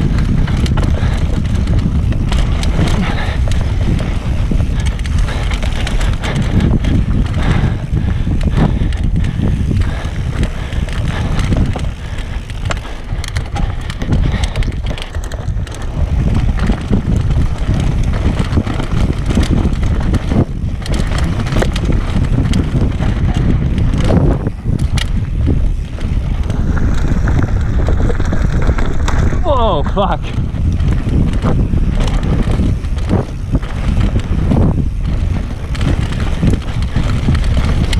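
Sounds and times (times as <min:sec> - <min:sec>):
bike clicks and rattles: 0:00.0 - 0:37.9
bike tyres over dirt and rocks: 0:00.0 - 0:37.9
wind buffeting microphone: 0:00.0 - 0:37.9.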